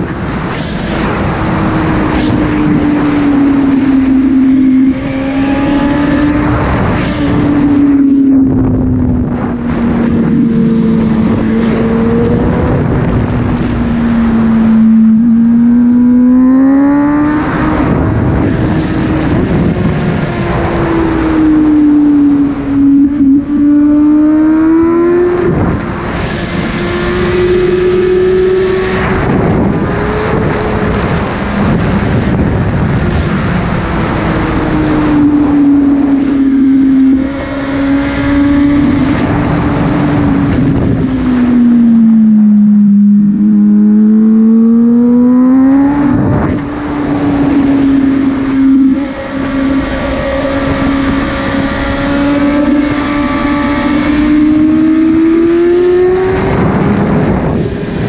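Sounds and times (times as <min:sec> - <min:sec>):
motorcycle engine running hard: 0:00.0 - 0:58.0
wind rush on microphone: 0:00.0 - 0:58.0.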